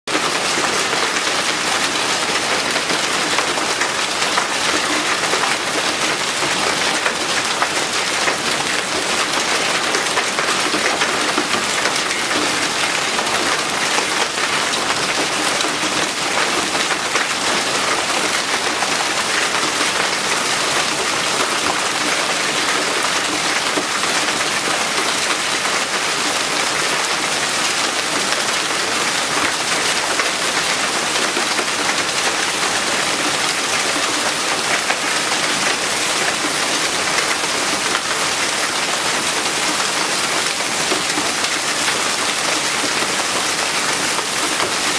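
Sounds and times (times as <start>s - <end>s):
hail falling on hard surfaces: 0.1s - 44.9s.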